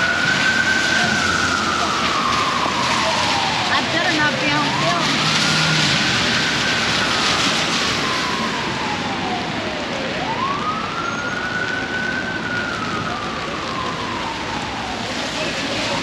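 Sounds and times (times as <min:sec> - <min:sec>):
emergency siren wailing: 0:00.0 - 0:16.0
traffic on wet street: 0:00.0 - 0:16.0.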